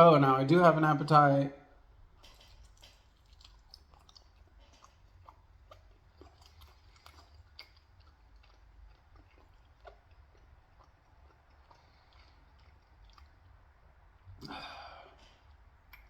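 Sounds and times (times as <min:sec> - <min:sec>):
close-up chewing: 0:01.8 - 0:16.0
wet mouth clicks: 0:02.3 - 0:16.0.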